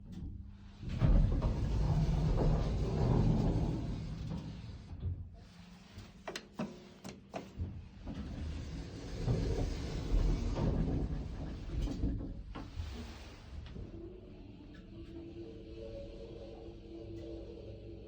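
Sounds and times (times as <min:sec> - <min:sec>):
elevator low rumbling with jolts: 0:00.0 - 0:06.2, 0:07.5 - 0:18.0.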